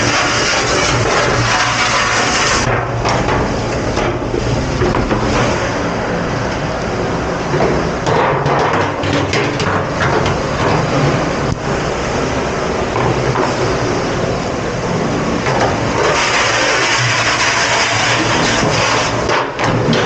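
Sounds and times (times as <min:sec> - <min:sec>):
mechanical noise with low hum: 0:00.0 - 0:20.0.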